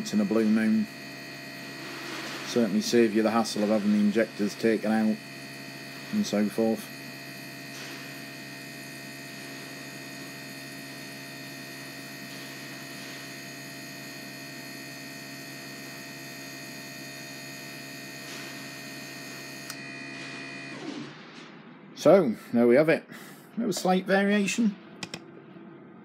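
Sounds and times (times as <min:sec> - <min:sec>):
test bench humming: 0:00.0 - 0:26.0.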